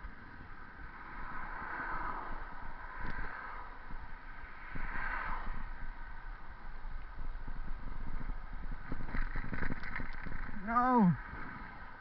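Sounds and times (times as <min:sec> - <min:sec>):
bicycle tyres rolling on pavement: 0:00.0 - 0:12.0
wind on camera microphone: 0:00.0 - 0:12.0.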